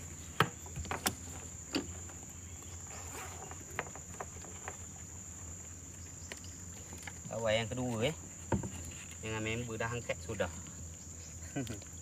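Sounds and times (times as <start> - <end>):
insects buzzing: 0.0 - 12.0
low steady hum: 0.0 - 12.0.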